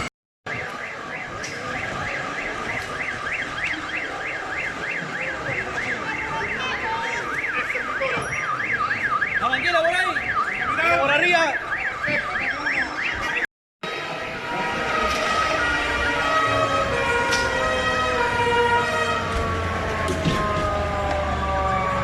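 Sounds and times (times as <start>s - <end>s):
electronic siren yelping: 0.5s - 22.0s.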